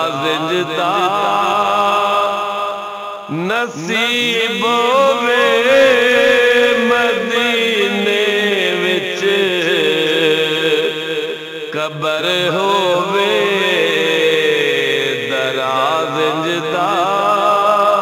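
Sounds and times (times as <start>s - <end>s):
layered chanted vocals: 0.0s - 18.0s.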